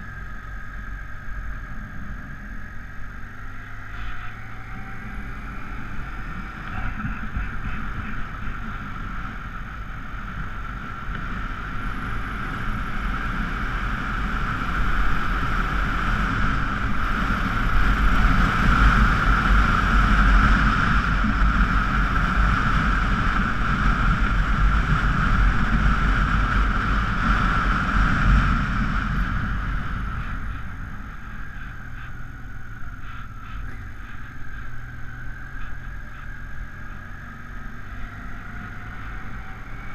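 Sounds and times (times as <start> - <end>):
motorcycle engine running: 0.0 - 39.9
wind on microphone: 3.9 - 39.9.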